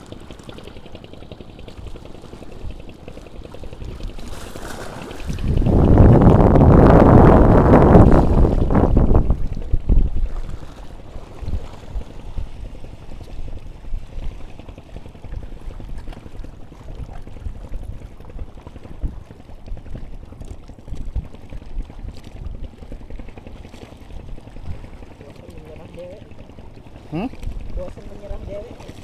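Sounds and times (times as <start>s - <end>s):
water lapping against concrete: 0.0s - 6.4s, 7.1s - 29.0s
wind buffeting microphone: 0.2s - 29.0s.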